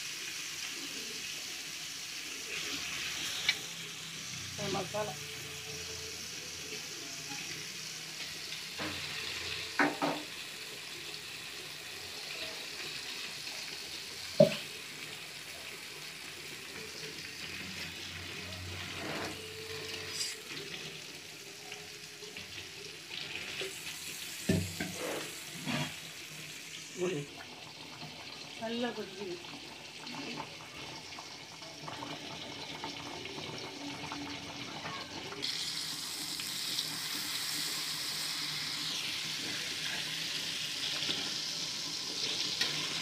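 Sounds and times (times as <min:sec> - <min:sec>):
fish sizzling in oil: 0:00.0 - 0:43.0.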